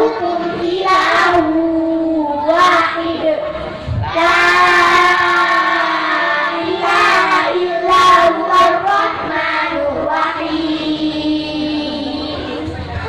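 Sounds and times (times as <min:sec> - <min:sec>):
children singing into microphones: 0:00.0 - 0:13.0.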